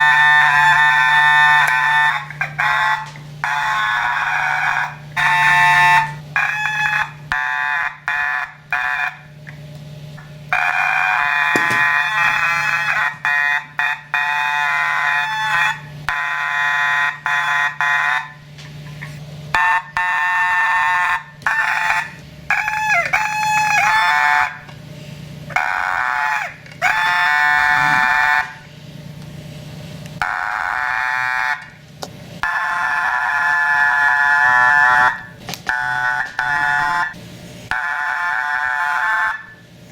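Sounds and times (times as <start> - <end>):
electric alarm horn buzzing: 0.0 - 9.6, 10.4 - 28.8, 30.2 - 31.8, 32.4 - 39.9
low electrical hum: 0.0 - 39.9.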